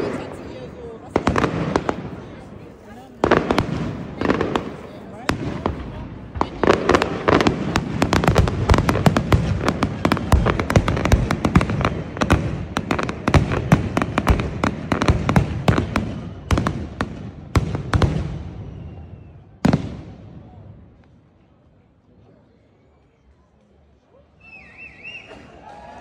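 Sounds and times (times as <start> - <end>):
fireworks bangs and crackling: 0.0 - 21.3.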